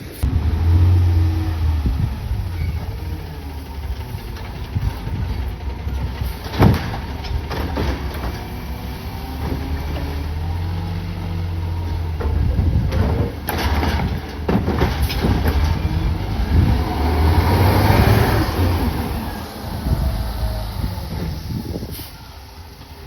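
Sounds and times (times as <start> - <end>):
garbage truck engine running: 0.0 - 23.0.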